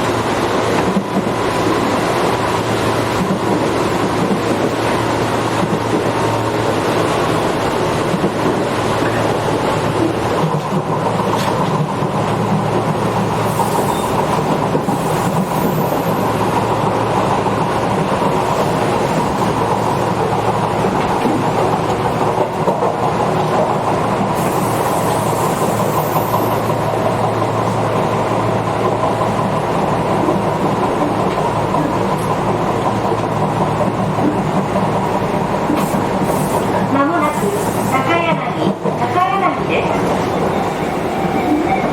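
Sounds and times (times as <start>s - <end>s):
train motors humming: 0.0s - 41.9s
train wheels rumbling on rails: 0.0s - 41.9s.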